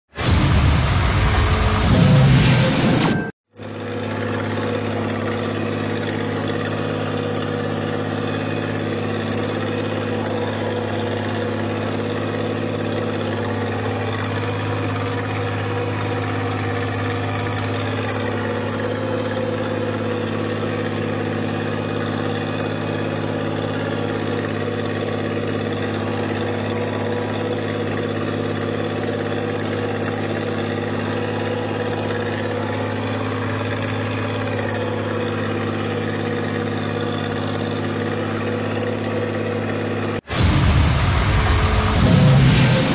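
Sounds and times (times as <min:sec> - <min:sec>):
tractor engine running: 0:03.6 - 0:42.9.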